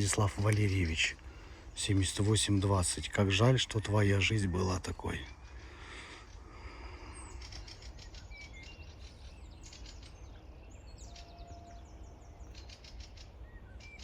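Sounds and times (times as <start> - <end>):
bird chirps: 0.0 - 14.0
low outdoor rumble: 0.0 - 14.0.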